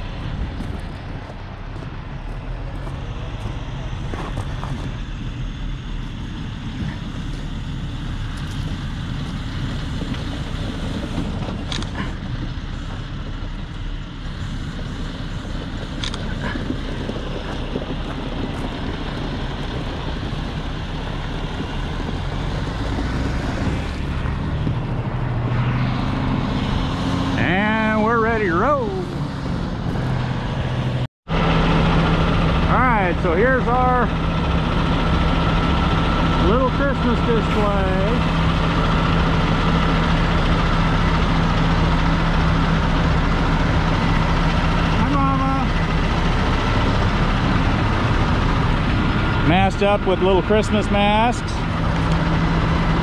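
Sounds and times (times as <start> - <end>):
diesel truck engine idling: 0.0 - 53.0.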